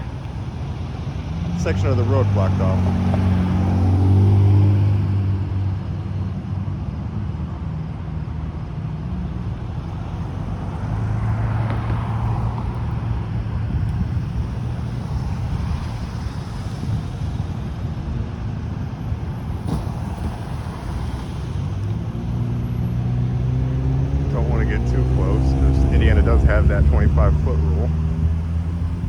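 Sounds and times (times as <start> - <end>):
vehicle passing: 0.0 - 7.3, 9.1 - 29.0
road traffic: 0.0 - 29.0.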